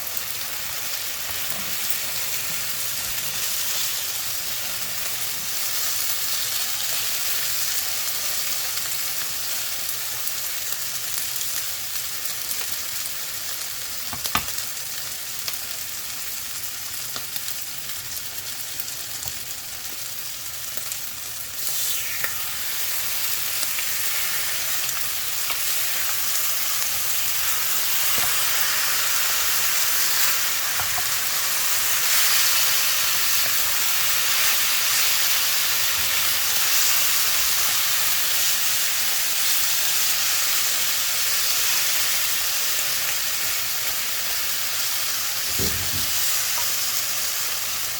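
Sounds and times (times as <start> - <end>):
rice sizzling in a hot pan: 0.0 - 47.9.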